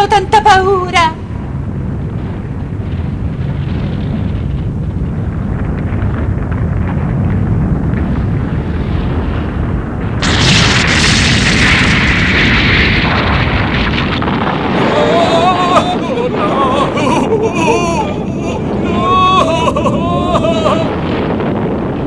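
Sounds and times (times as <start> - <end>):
deep rumble of shaking ground: 0.0 - 22.0.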